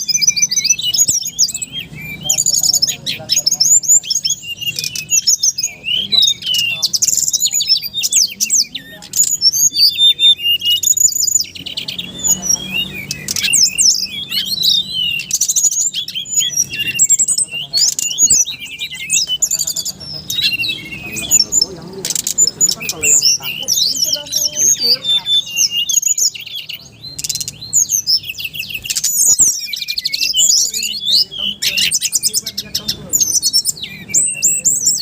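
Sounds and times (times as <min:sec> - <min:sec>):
birds chirping and trilling: 0:00.0 - 0:35.0.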